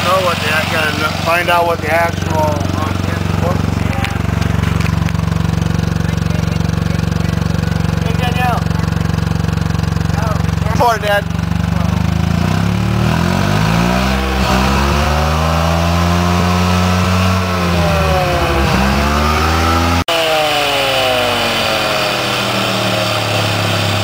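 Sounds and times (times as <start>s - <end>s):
rotary engine revving: 0.0s - 24.0s.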